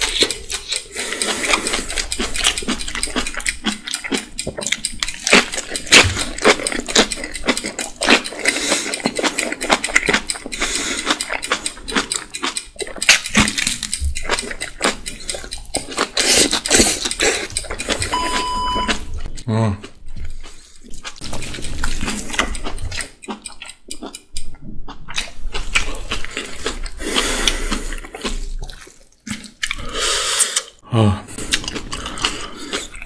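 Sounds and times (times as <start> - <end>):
wet chewing and slurping: 0.0 - 33.0.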